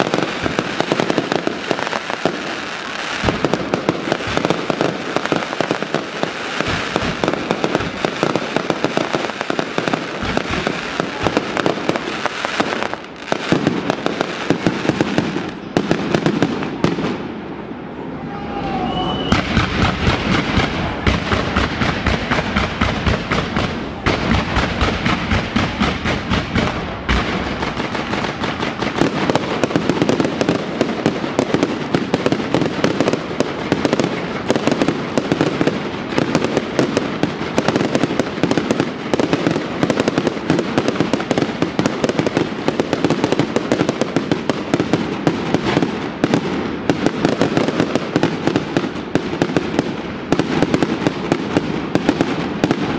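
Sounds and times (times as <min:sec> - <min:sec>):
fireworks bangs and crackles: 0:00.0 - 0:52.9.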